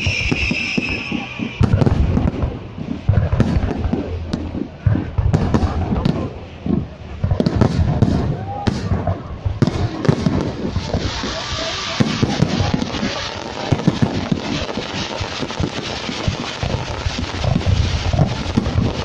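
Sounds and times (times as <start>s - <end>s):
firework shells bursting: 0.0s - 19.0s
steady hiss: 0.0s - 19.0s.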